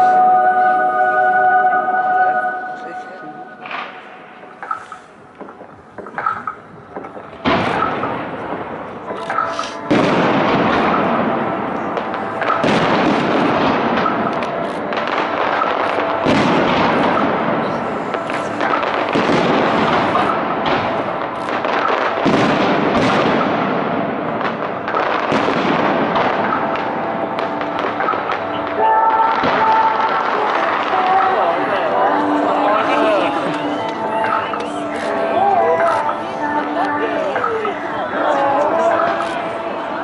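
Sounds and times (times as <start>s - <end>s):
fireworks bursting and crackling: 3.6s - 40.0s.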